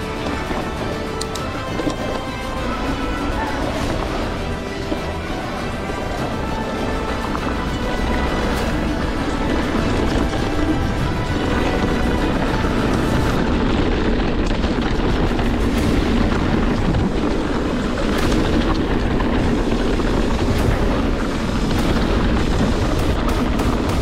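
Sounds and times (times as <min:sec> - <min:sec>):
bike riding over rough trail: 0:00.0 - 0:24.0
cinematic trailer music: 0:00.0 - 0:24.0
wind rumble on microphone: 0:00.0 - 0:24.0.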